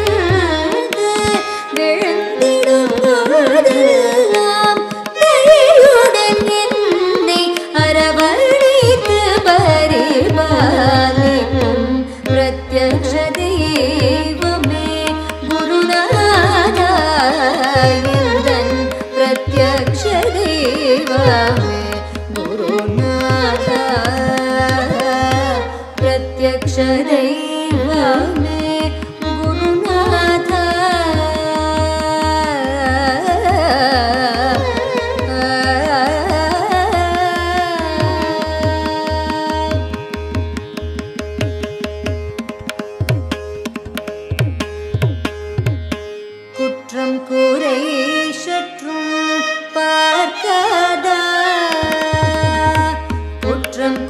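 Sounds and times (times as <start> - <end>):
woman singing: 0.0 - 40.4, 46.9 - 54.0
violin melody: 0.0 - 54.0.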